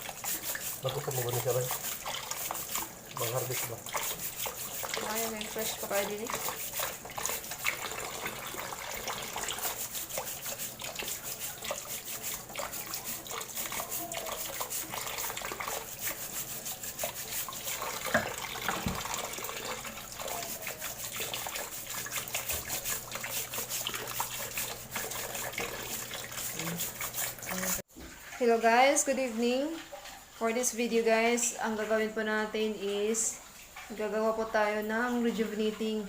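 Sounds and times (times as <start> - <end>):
running water splashing: 0.0 - 36.0.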